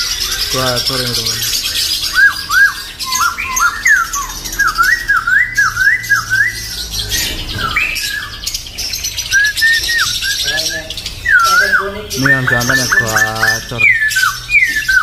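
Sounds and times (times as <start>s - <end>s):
bird calling in sharp notes: 0.0s - 15.0s
small birds chirping: 0.0s - 15.0s.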